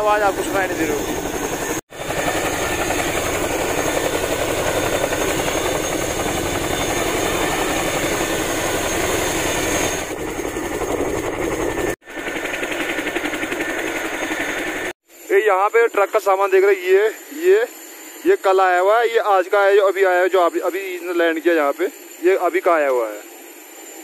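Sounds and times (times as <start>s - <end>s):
helicopter rotors pulsing: 0.0s - 24.0s.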